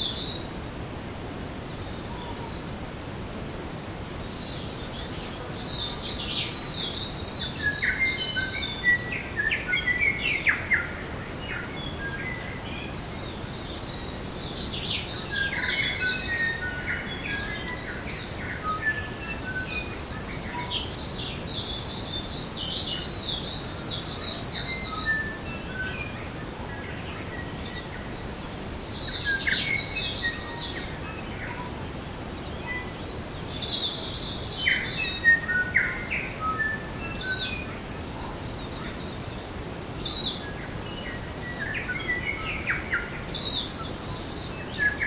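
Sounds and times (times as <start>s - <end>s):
songbirds singing: 0.0s - 45.0s
steady background hiss: 0.0s - 45.0s.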